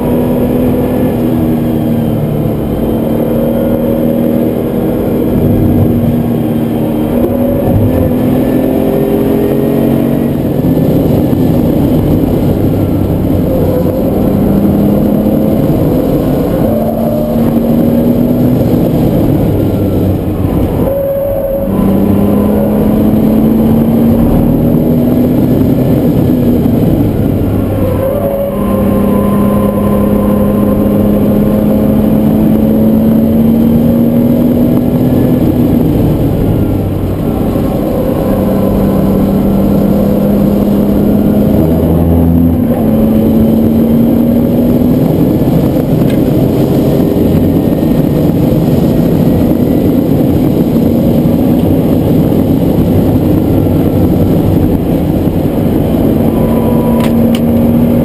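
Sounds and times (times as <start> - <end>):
car engine pulling hard: 0.0 - 58.0.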